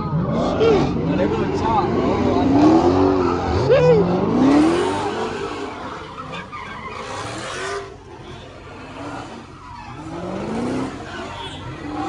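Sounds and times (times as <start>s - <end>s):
car engine revving: 0.0s - 12.0s
tyres screeching: 1.9s - 12.0s.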